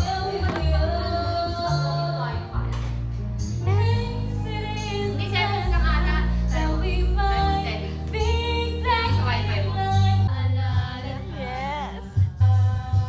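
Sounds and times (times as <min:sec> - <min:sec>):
woman singing into microphone: 0:00.0 - 0:02.8, 0:03.6 - 0:13.0.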